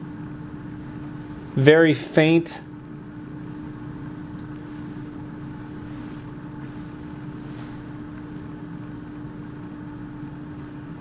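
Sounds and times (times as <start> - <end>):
ventilation hum: 0.0 - 11.0.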